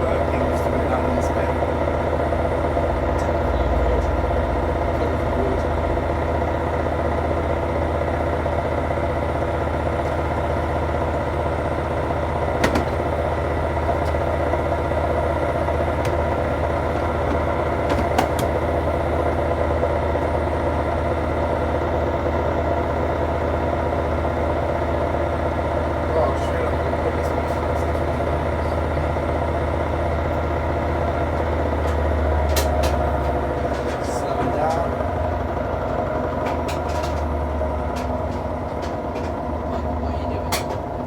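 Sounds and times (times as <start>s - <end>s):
washing machine spinning: 0.0s - 41.0s.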